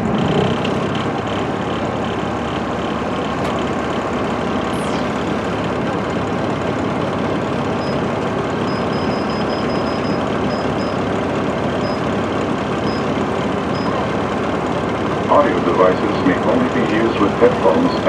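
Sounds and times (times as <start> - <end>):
tyre and road noise: 0.0 - 17.8
diesel engine running: 0.0 - 18.0.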